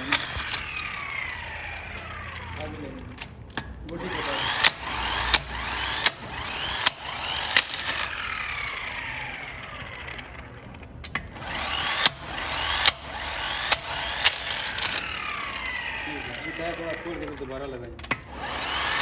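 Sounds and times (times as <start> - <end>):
impact wrench metallic impacts: 0.0 - 19.0
impact wrench whirring: 0.0 - 19.0.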